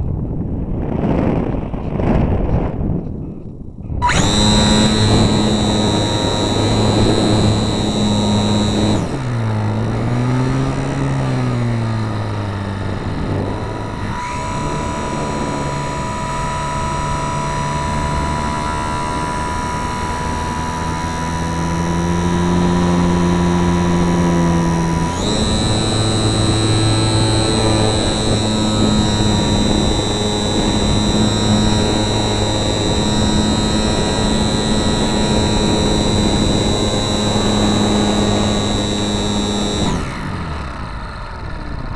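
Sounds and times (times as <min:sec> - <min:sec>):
model plane motor and propeller: 0:04.0 - 0:41.9.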